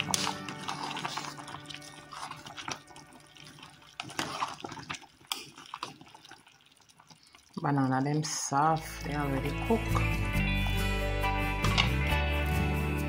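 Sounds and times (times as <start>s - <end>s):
water boiling in a pot: 0.0s - 10.5s.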